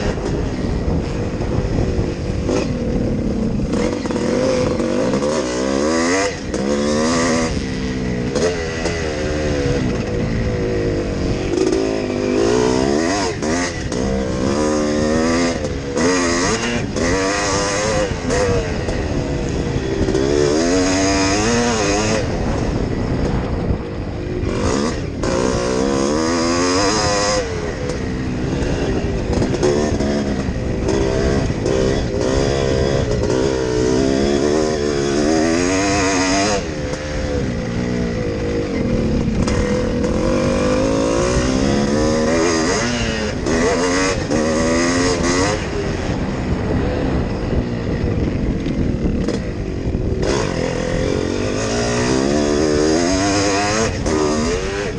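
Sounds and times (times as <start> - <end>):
motocross engine revving: 0.0 - 54.9.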